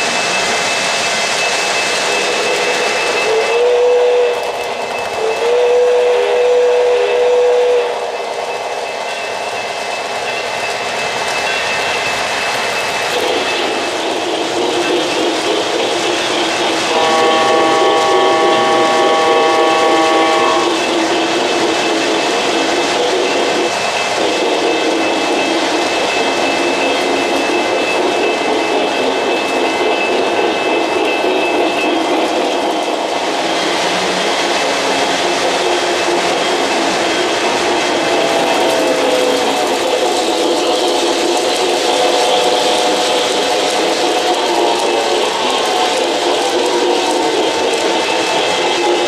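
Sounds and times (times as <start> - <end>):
locomotive sustained chord: 0.0 - 49.0
model trains running on track: 0.0 - 49.0.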